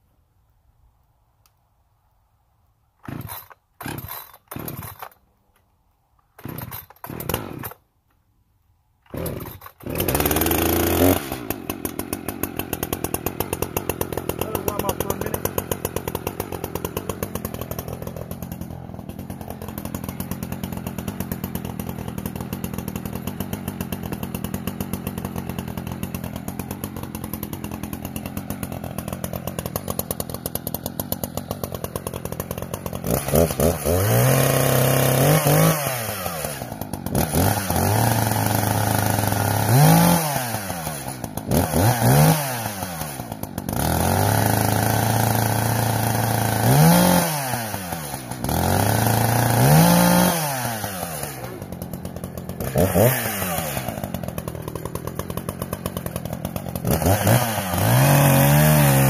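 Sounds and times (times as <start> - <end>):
chainsaw engine idling and revving: 3.0 - 5.3, 6.2 - 7.9, 9.0 - 59.0.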